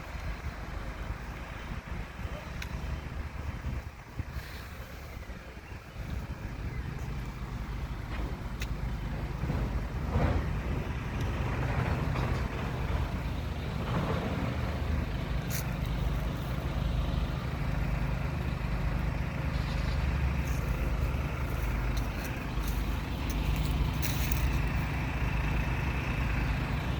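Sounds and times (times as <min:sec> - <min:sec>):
traffic engine rumble: 0:00.0 - 0:26.9
vehicles passing by: 0:00.0 - 0:26.9.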